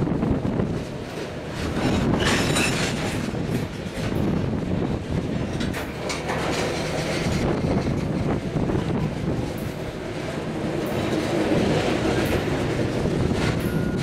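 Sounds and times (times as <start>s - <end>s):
train wheels rumbling on rail: 0.0s - 14.0s
wheels clicking over rail joints: 0.5s - 14.0s.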